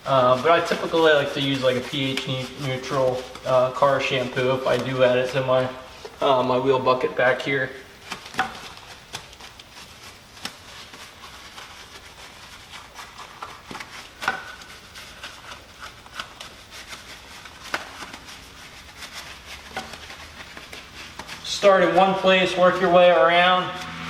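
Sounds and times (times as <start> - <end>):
brush scrubbing a wheel: 0.0 - 24.0.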